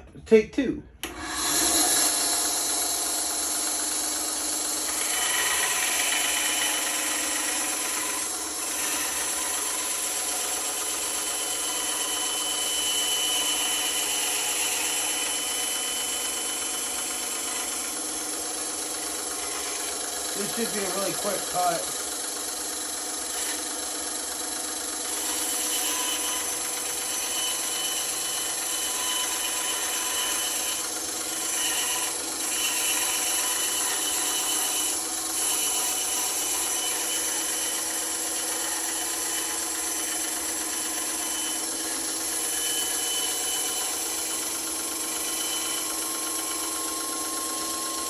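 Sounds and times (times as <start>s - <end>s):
bandsaw cutting wood: 1.0s - 48.0s.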